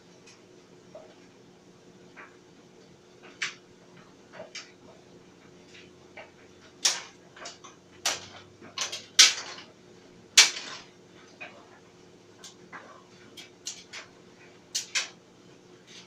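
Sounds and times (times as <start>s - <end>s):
clothes dryer humming: 0.0s - 16.0s.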